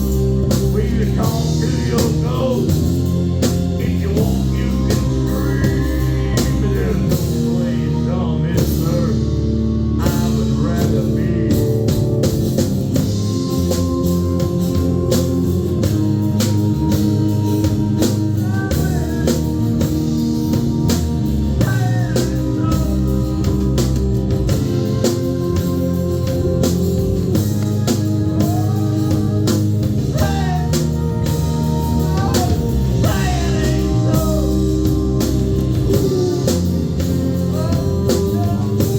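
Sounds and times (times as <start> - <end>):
drum kit beat: 0.0 - 38.9
electric guitar: 0.0 - 38.9
person singing: 0.0 - 38.9.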